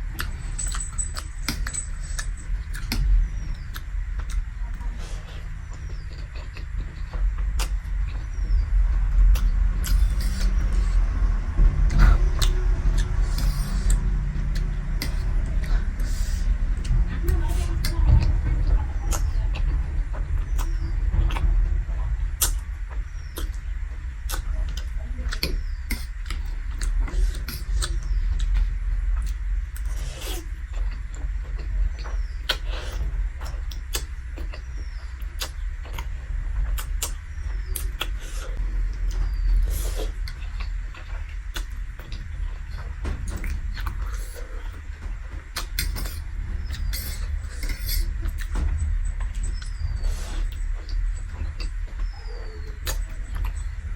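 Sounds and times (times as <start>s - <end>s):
crunching and chewing: 0.0s - 53.9s
steady low rumble: 0.0s - 53.9s.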